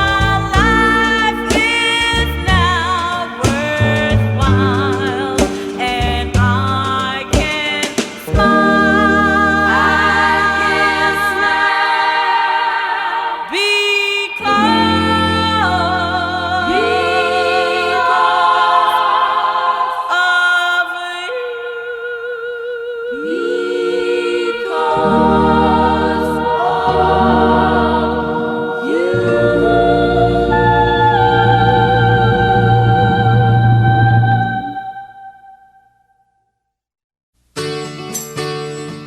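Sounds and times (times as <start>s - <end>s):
women singing in harmony: 0.0s - 35.8s.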